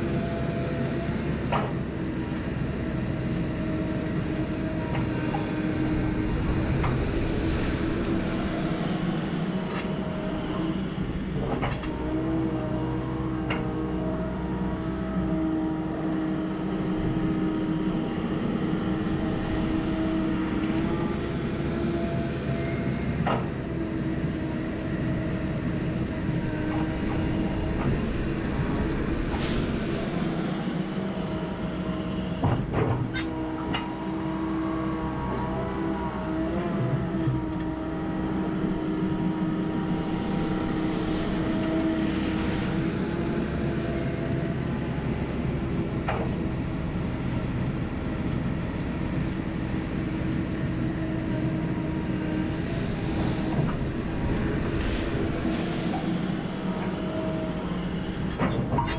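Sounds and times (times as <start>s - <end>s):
heavy diesel machinery running: 0.0s - 58.9s.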